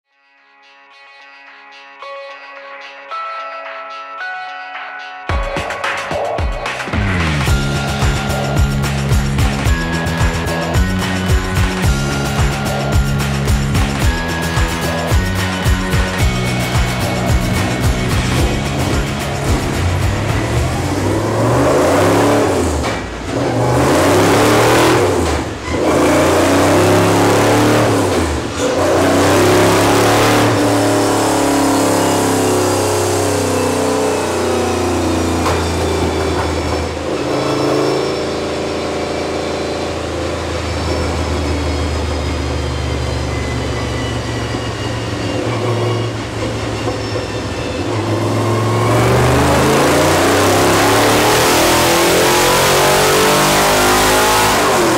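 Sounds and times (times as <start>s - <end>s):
car engine revving: 6.8s - 54.9s.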